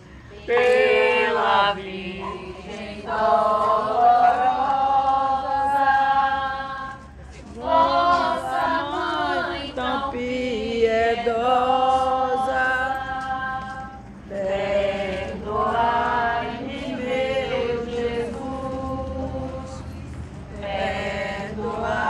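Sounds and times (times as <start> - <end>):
voices singing a hymn: 0.0 - 22.0.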